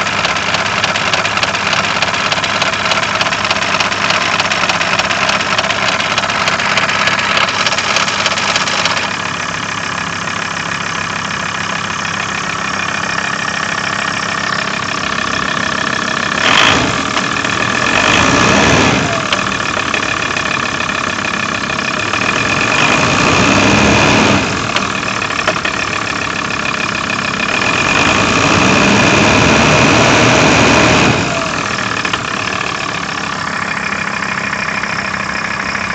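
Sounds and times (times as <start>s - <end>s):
engine revving: 0.0s - 9.2s, 12.8s - 35.9s
diesel engine running: 0.0s - 35.9s.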